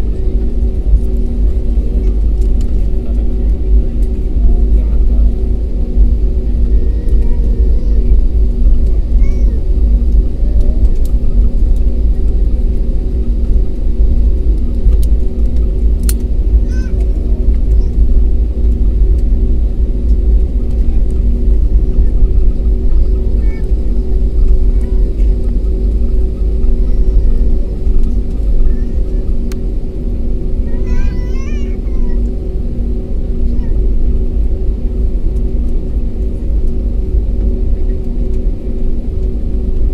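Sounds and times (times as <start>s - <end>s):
jet engines droning: 0.0s - 39.9s
low rumble: 0.0s - 39.9s.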